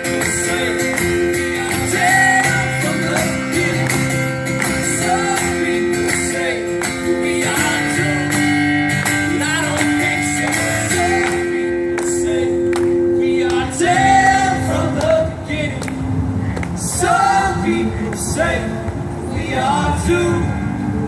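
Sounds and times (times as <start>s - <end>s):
strummed guitar: 0.0s - 18.6s.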